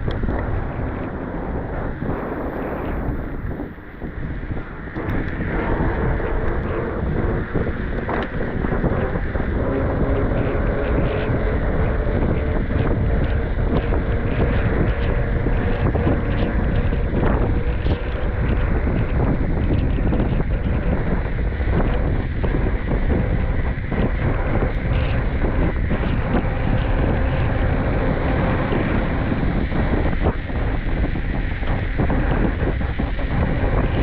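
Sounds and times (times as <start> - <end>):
faint steady hum: 0.0 - 34.0
wind buffeting microphone: 0.0 - 34.0.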